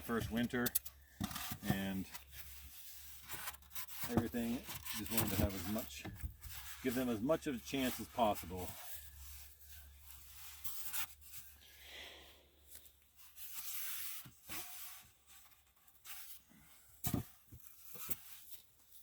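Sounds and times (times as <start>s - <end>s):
foam boards scraping and rubbing: 0.0s - 11.6s, 13.3s - 19.0s.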